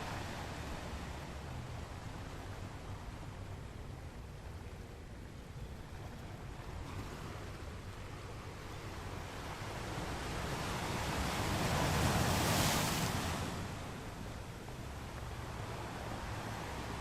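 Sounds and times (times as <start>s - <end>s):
ocean waves on beach: 0.0s - 17.0s.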